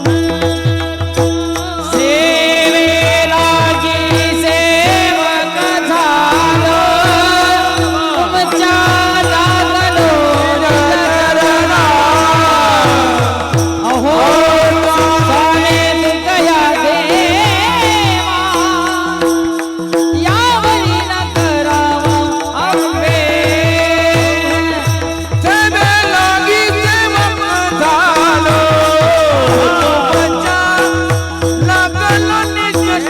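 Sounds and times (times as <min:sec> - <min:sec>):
solo voice singing ornamented melody: 0:00.0 - 0:33.0.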